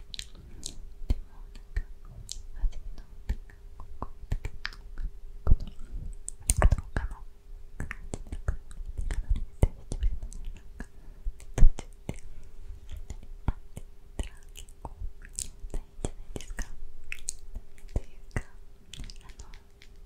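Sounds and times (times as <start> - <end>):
faint steady hum: 0.0 - 20.0
wet mouth clicks and lip smacks: 0.1 - 1.2, 3.3 - 7.1, 7.8 - 12.2, 12.9 - 20.0
close whispering: 0.2 - 19.8.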